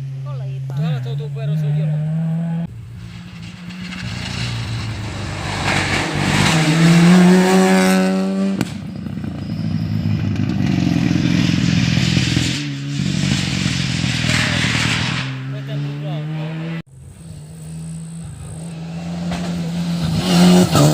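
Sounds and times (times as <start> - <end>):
rally car engine at full throttle: 0.0 - 20.9.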